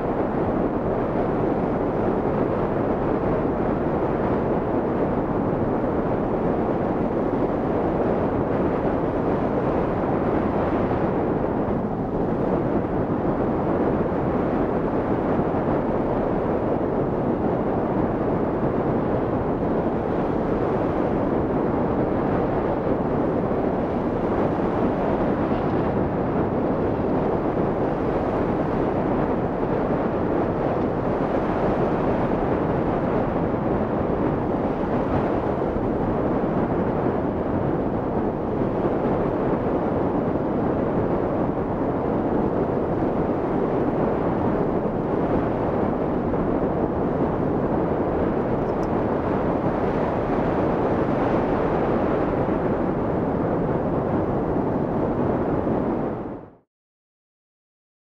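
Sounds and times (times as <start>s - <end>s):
wind rushing over microphone: 0.0s - 56.7s.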